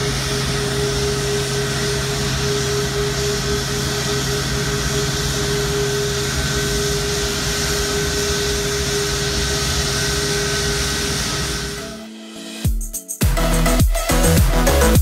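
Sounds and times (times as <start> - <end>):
jet engines idling: 0.0 - 12.2.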